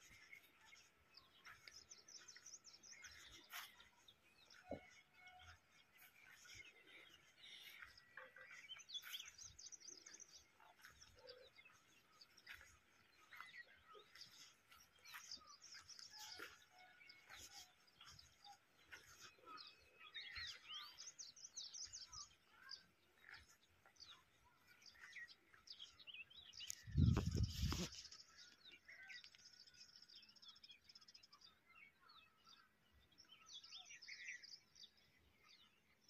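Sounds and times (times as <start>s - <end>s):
faint small birds chirping: 0.0s - 36.0s.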